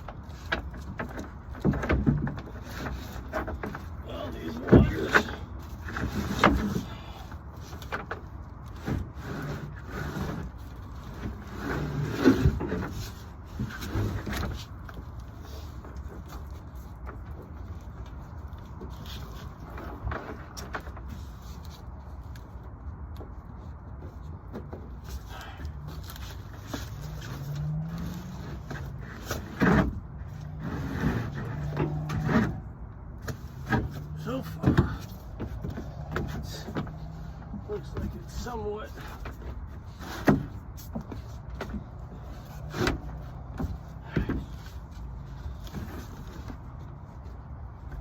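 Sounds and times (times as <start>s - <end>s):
wood scraping and rubbing: 0.0s - 48.0s.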